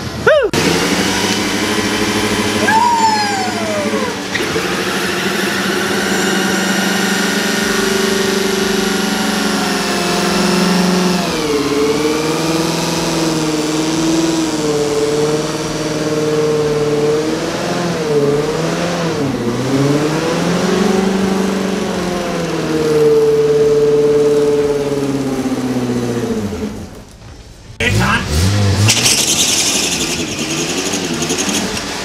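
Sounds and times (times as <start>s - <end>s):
engine revving hard: 0.6s - 26.9s, 27.8s - 32.0s.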